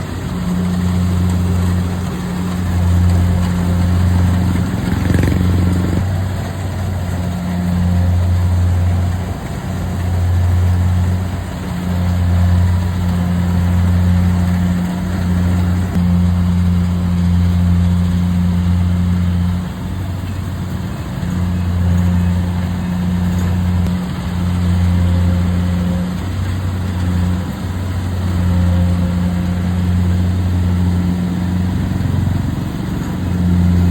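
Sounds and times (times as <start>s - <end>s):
harvester engine humming: 0.0s - 33.9s.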